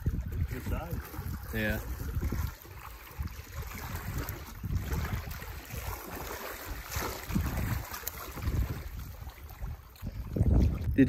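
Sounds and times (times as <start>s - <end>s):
water lapping against boat: 0.0s - 11.0s
wind buffeting microphone: 0.0s - 11.0s.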